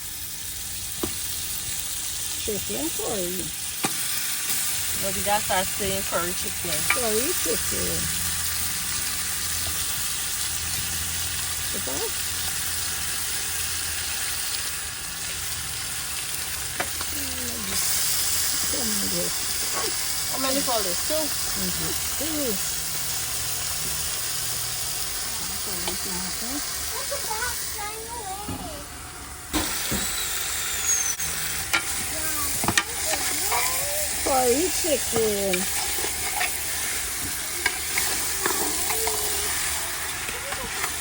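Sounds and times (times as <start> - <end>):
chicken sizzling in a pot: 0.0 - 41.0.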